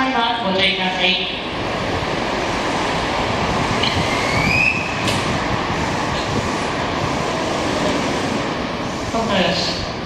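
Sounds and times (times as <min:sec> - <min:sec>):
train equipment rushing: 0:01.4 - 0:10.0.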